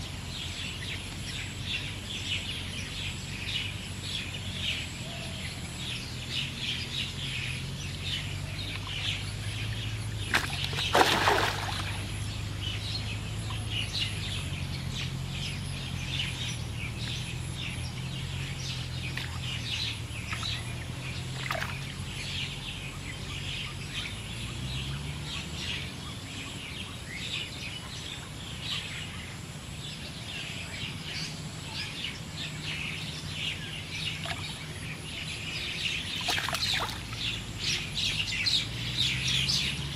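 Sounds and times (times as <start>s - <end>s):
low steady hum: 0.0s - 39.9s
small birds chirping: 0.0s - 39.9s.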